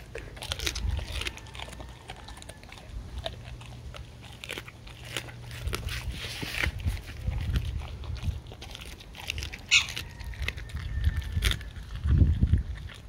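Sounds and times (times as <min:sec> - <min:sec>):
dog chewing fish: 0:00.0 - 0:13.0.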